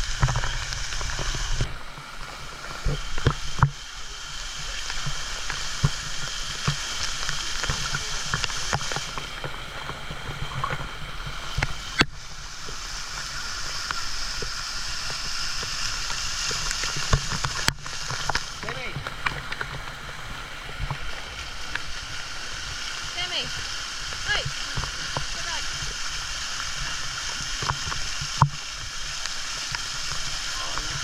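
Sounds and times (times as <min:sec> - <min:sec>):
water sloshing and gurgling: 0:00.0 - 0:31.0.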